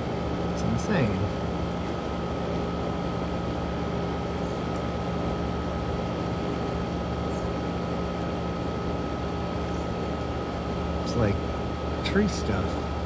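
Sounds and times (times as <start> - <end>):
window air conditioner running: 0.0 - 13.0.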